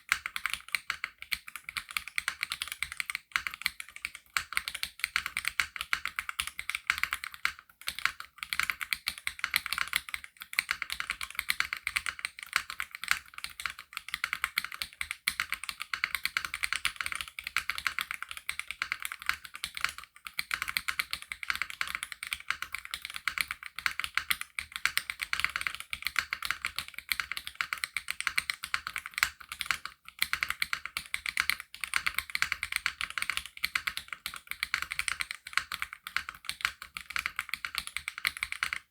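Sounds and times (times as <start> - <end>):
fast typing on mechanical keyboard: 0.1 - 38.9.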